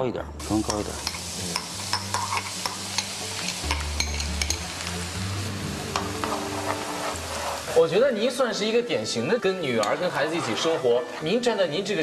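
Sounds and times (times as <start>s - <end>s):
garlic sizzling in oil: 0.4s - 12.0s.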